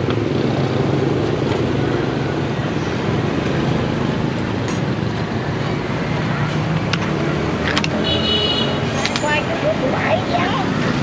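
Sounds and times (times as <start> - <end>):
road traffic engine drone: 0.0 - 11.0.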